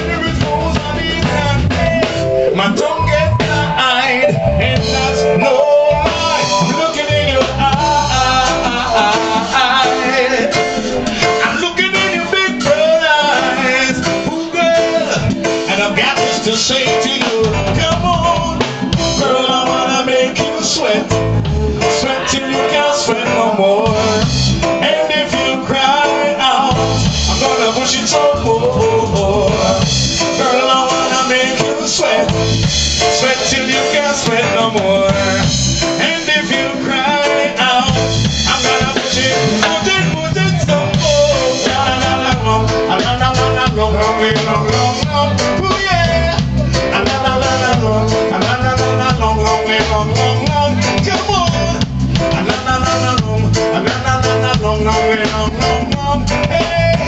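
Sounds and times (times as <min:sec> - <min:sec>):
drum kit steady beat: 0:00.0 - 0:57.0
live band playing: 0:00.0 - 0:57.0.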